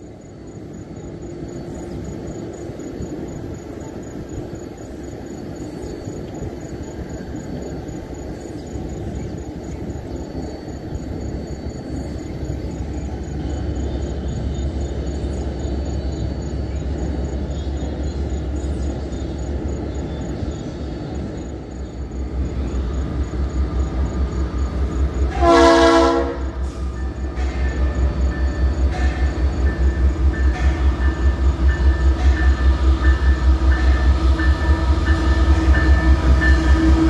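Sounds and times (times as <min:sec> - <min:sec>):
diesel locomotive engine rumble: 0:00.0 - 0:37.0.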